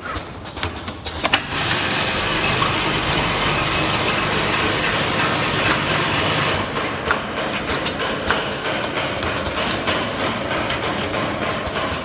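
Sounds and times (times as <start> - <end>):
packing machine rushing noise: 0.0 - 12.0.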